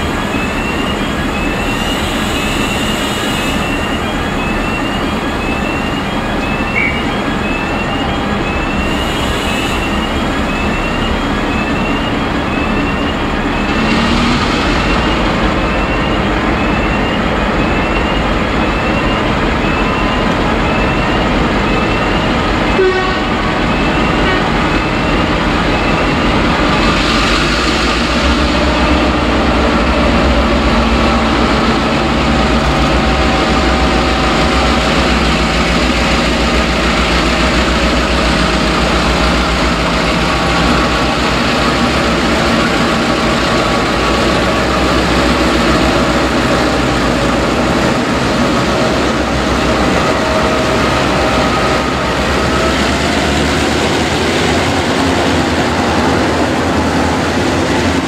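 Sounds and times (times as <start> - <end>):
diesel locomotive engines rumbling: 0.0 - 58.0
freight train clatter: 0.0 - 58.0.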